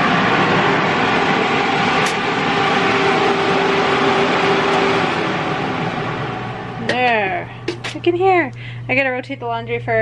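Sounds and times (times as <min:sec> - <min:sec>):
electric fan running: 0:00.0 - 0:10.0.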